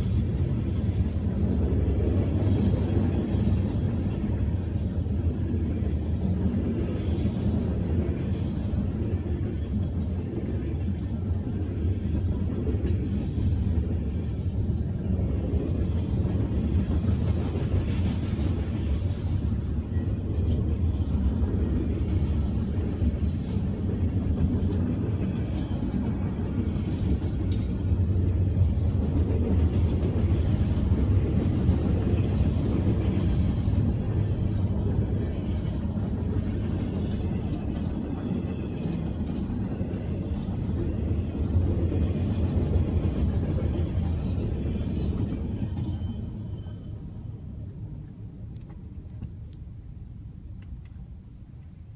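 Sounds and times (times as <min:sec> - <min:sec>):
freight train rumbling: 0:00.0 - 0:51.9.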